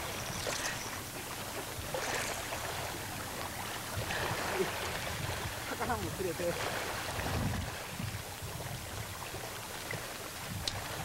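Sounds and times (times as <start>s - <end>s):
water lapping and splashing: 0.0s - 11.0s.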